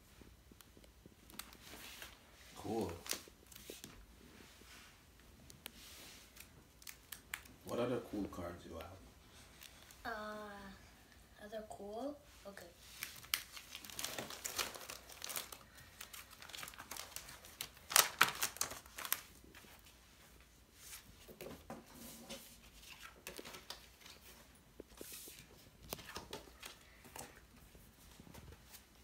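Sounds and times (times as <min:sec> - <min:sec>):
plastic crinkling and rustling: 0:00.5 - 0:10.0, 0:12.7 - 0:29.0.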